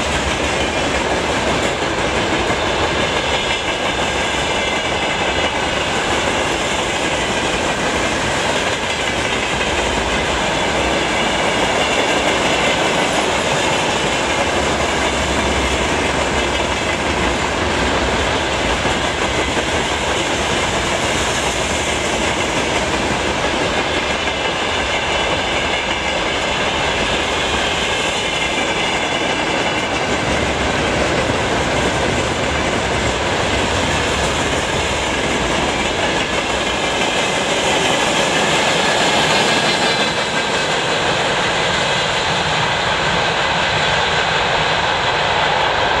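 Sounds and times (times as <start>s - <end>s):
freight train wheels clattering on rails: 0.0s - 46.0s.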